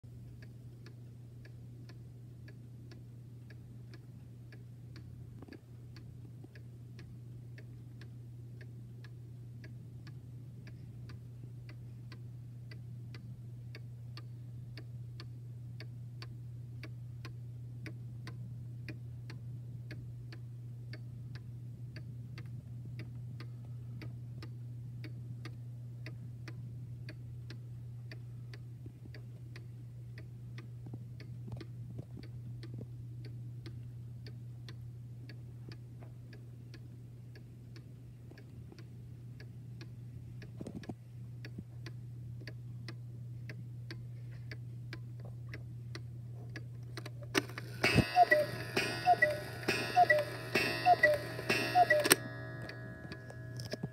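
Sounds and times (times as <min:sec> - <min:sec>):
clock ticking: 0:00.1 - 0:53.9
steady low hum: 0:00.1 - 0:53.9.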